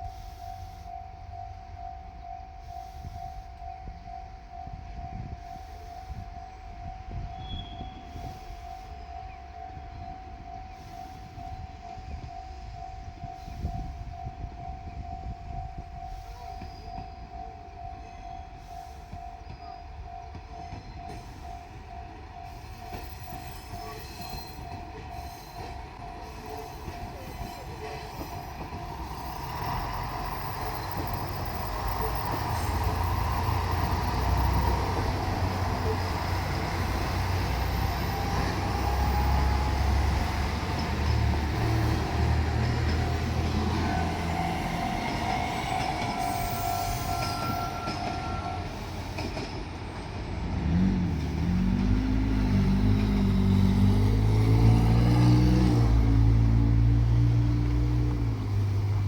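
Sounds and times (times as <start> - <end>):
diesel train engine: 0.0 - 59.0
train wheels rumbling on rails: 0.0 - 59.0.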